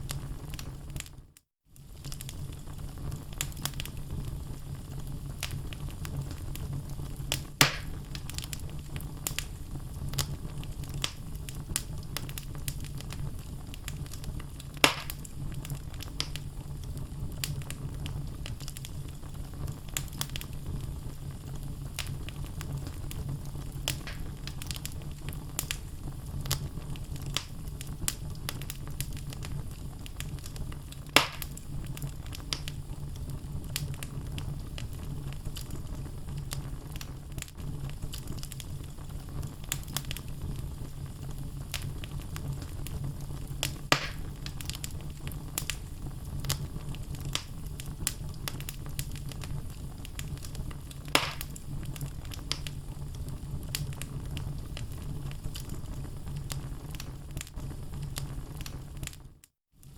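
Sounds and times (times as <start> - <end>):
loud fire pops: 0.0 - 1.2, 1.8 - 59.9
low rumble of flames: 0.0 - 59.9
wood crackling: 1.8 - 59.2.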